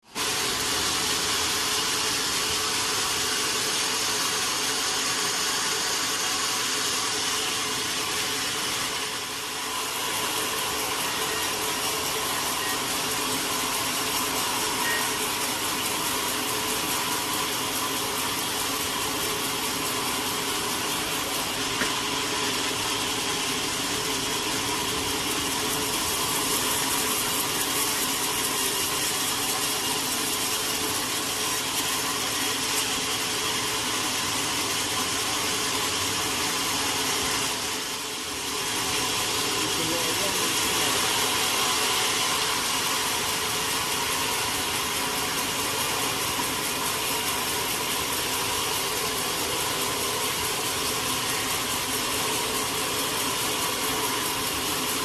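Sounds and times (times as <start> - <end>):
sawmill machinery hum: 0.0 - 55.0.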